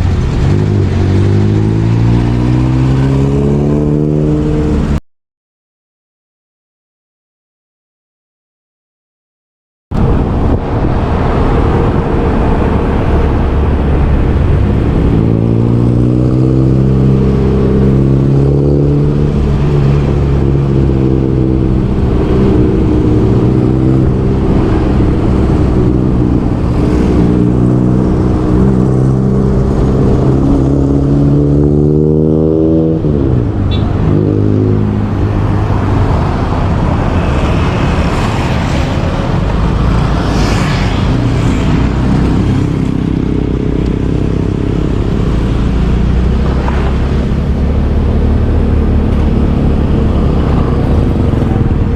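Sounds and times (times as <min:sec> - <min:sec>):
road and wind noise: 0:00.0 - 0:05.0, 0:09.9 - 0:51.9.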